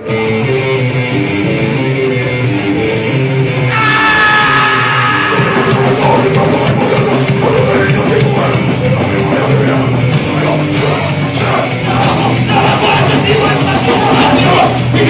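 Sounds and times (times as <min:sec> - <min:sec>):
distorted electric guitars: 0:00.0 - 0:15.0
drums: 0:00.0 - 0:15.0.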